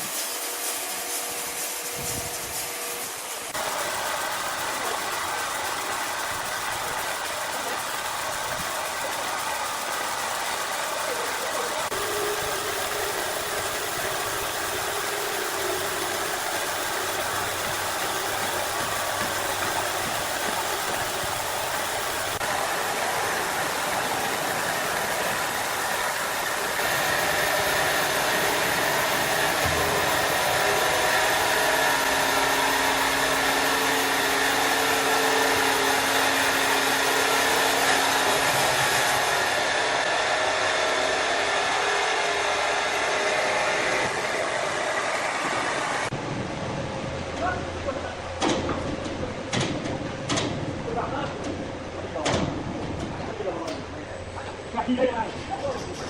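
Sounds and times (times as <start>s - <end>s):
power saw running: 0.0s - 46.2s.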